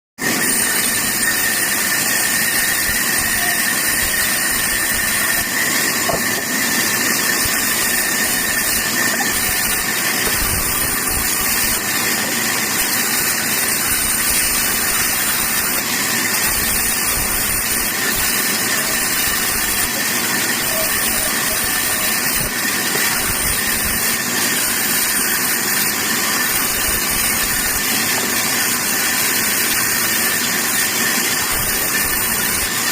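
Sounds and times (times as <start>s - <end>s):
bandsaw running: 0.2s - 32.9s.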